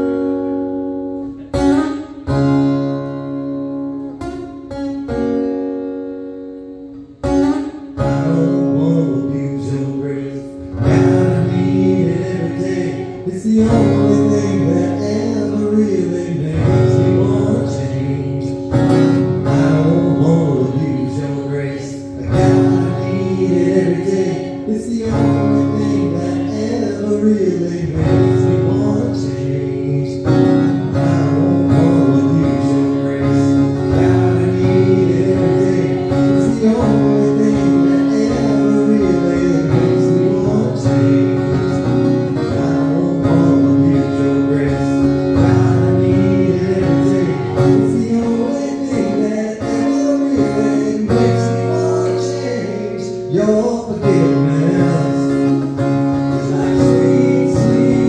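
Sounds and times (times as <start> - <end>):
acoustic guitar strummed: 0.0 - 58.0.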